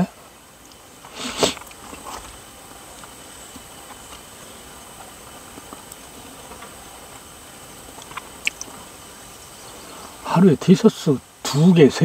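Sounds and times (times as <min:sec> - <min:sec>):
insects droning: 0:00.0 - 0:12.0
low hiss: 0:00.0 - 0:12.0.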